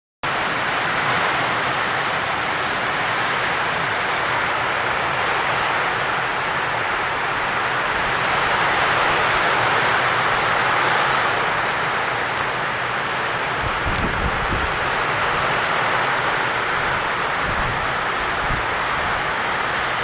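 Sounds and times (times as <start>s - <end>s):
heavy rain pouring: 0.3s - 20.0s.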